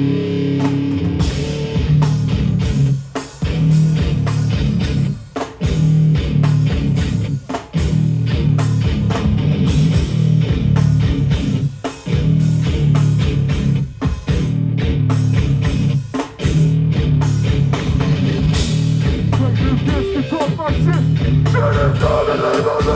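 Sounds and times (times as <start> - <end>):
band playing distorted guitar riff: 0.0 - 22.9.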